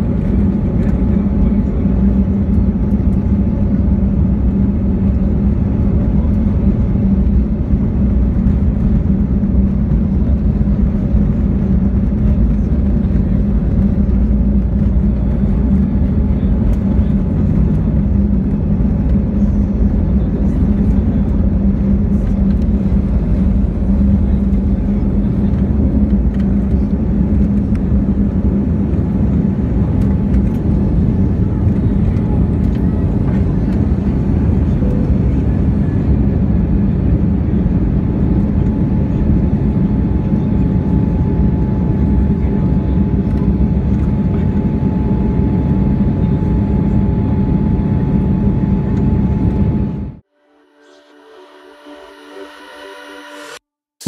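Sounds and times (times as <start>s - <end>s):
runway rumble: 0.0s - 50.2s
jet engines droning: 0.0s - 53.6s.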